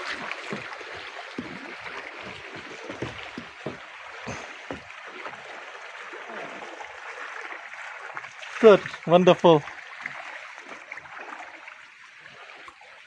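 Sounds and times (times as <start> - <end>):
paddle strokes dripping: 0.0 - 13.0
water splashing around a kayak: 0.0 - 13.0.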